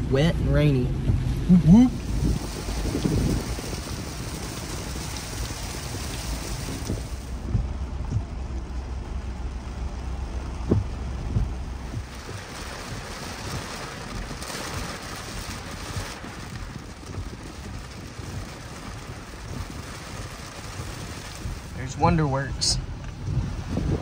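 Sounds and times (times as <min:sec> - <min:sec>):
low rumble: 0:00.0 - 0:24.0
rain and tyres on wet road: 0:00.0 - 0:24.0.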